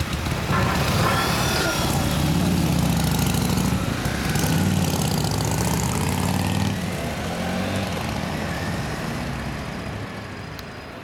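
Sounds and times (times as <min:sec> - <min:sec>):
motorcycle engines at low revs: 0:00.0 - 0:10.6.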